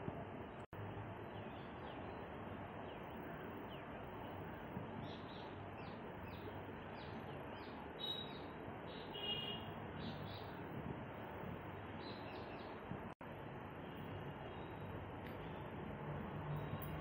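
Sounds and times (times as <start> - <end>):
small birds chirping: 0.4 - 12.9, 13.8 - 15.8.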